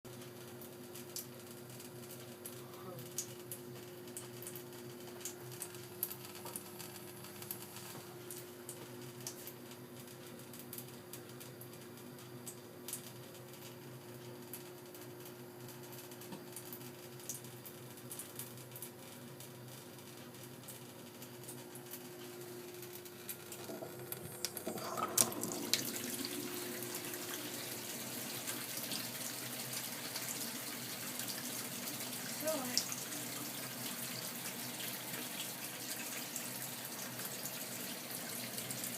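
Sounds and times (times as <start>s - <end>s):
boiler humming: 0.1s - 38.9s
water running with a hiss: 0.1s - 38.9s.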